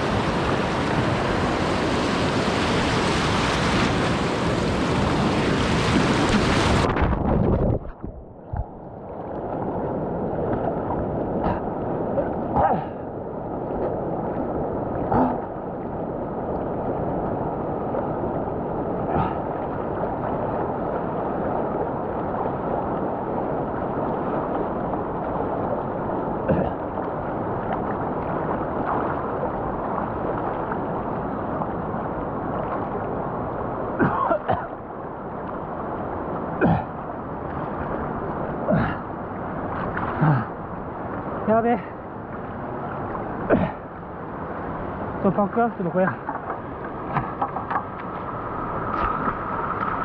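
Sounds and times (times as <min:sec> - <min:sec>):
fast river water rushing: 0:00.0 - 0:50.0.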